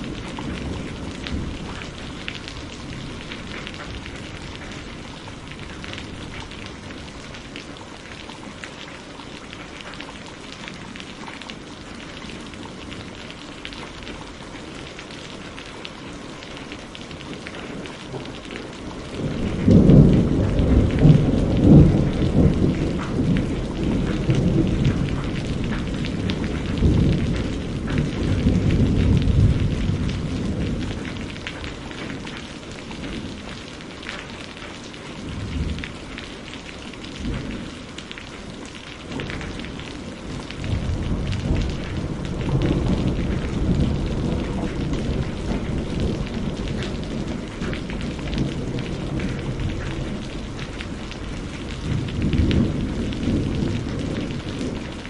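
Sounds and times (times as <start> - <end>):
thunder rumbling: 0.0 - 8.8, 17.1 - 33.9, 34.6 - 38.3, 39.0 - 55.0
rain falling: 0.0 - 55.0.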